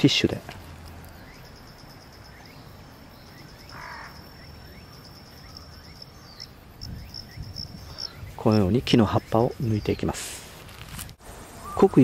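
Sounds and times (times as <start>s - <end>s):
insect rasping call: 0.0s - 10.1s, 11.3s - 12.0s
insects buzzing: 0.0s - 12.0s.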